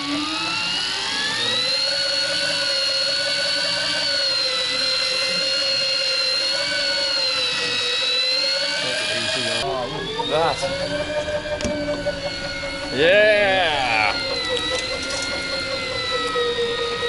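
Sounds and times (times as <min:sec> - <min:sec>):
fishing reel motor whining: 0:00.0 - 0:17.0.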